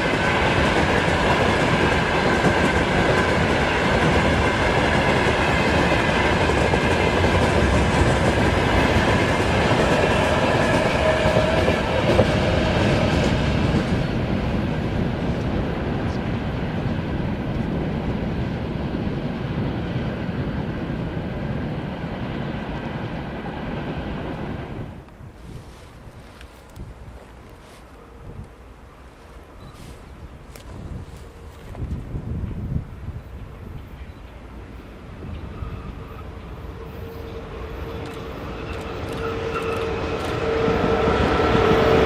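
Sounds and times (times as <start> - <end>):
freight train wagons rolling on rails: 0.0 - 42.0.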